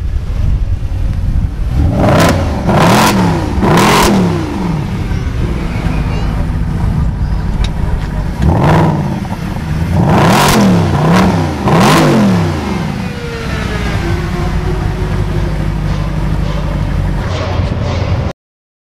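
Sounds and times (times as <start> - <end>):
car engine idling: 0.0 - 17.8
car engine revving: 0.2 - 18.3
exhaust cracks: 0.6 - 18.3.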